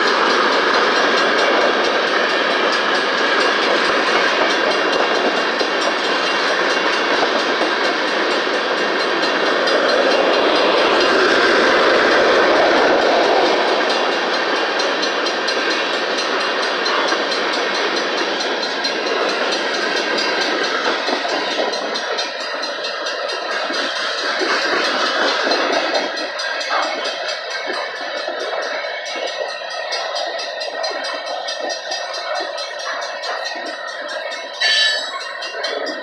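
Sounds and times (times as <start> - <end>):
freight train wheels rumbling on rail: 0.0 - 36.0.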